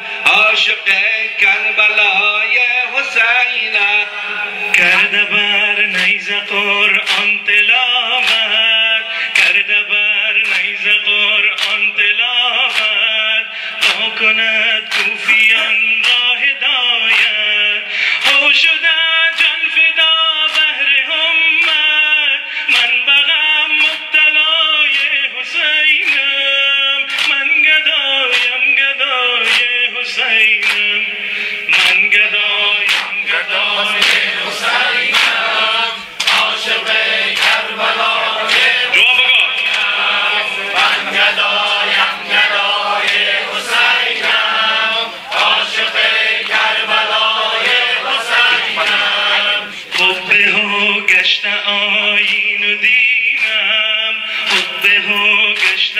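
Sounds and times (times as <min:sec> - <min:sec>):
men chanting a lament: 0:00.0 - 0:55.9.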